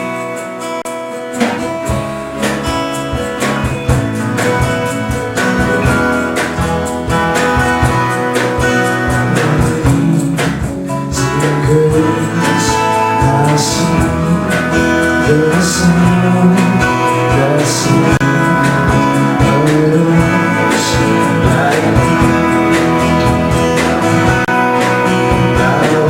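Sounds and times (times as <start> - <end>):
acoustic guitars strumming: 0.0 - 26.0
bass and drums: 0.0 - 26.0
voices singing: 1.3 - 26.0.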